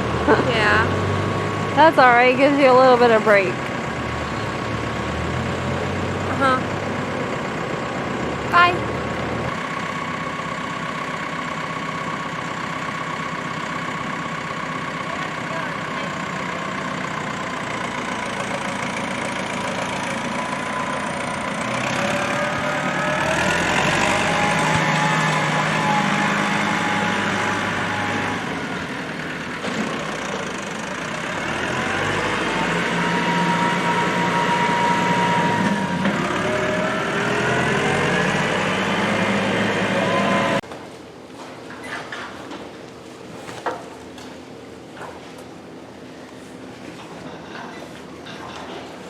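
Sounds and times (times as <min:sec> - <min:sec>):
tractor engine revving: 0:00.0 - 0:40.6.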